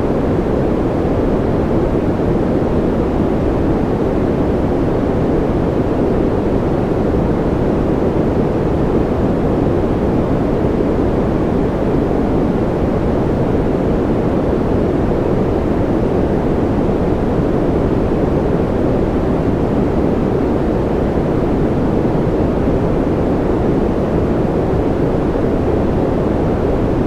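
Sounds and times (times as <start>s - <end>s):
white noise hiss: 0.0s - 27.0s.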